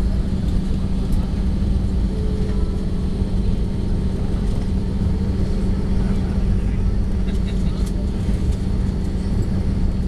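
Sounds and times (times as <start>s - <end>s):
airliner cabin rumble: 0.0s - 10.0s.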